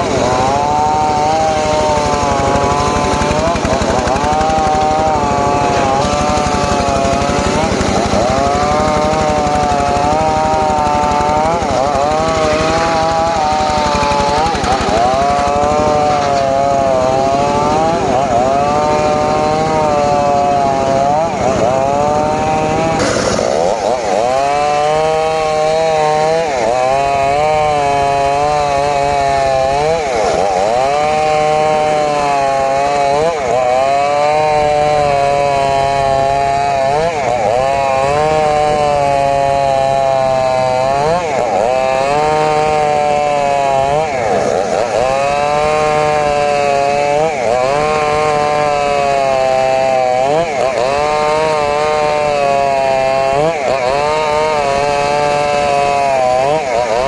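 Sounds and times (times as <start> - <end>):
engine-driven saw cutting wood: 0.0 - 57.0.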